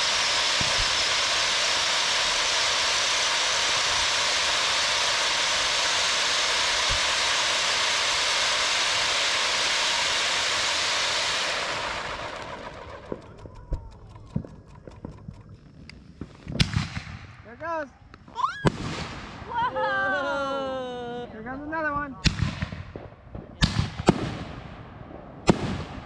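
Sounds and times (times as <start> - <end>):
firework fountain hissing: 0.0 - 26.0.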